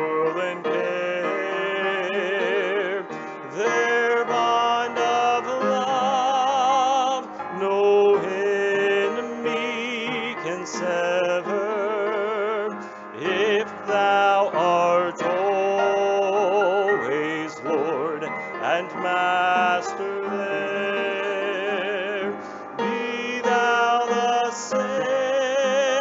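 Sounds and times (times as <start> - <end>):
voices singing a hymn: 0.0 - 26.0.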